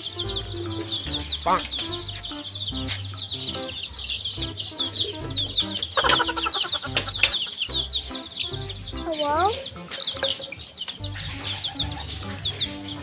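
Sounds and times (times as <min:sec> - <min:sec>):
background music: 0:00.0 - 0:13.0
chicks peeping: 0:00.0 - 0:13.0.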